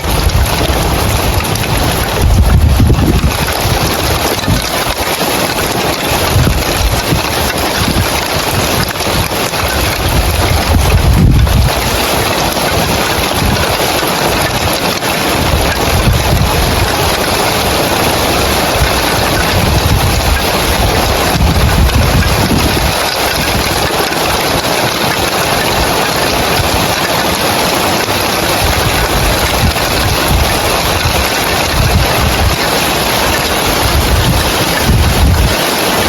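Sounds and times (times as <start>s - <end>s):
rain on roof tiles: 0.0s - 36.0s.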